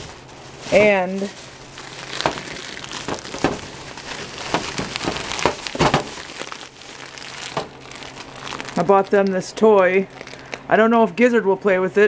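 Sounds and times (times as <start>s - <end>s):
plastic bag rustling: 0.0s - 10.7s.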